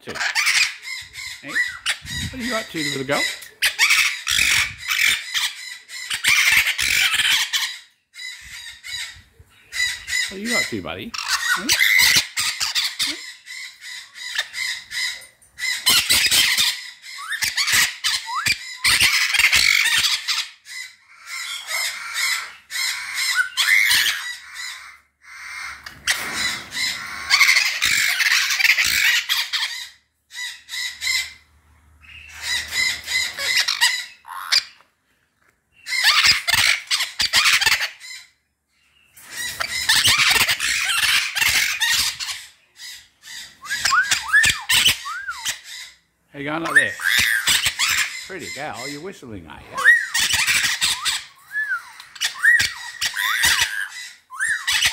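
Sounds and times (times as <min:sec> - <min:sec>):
parrots calling loudly: 0:00.0 - 0:35.0, 0:35.7 - 0:54.9.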